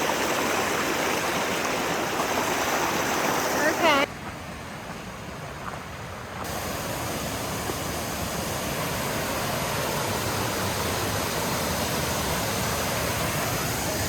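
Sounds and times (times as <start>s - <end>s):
waterfall rushing: 0.0s - 4.1s, 6.5s - 14.0s.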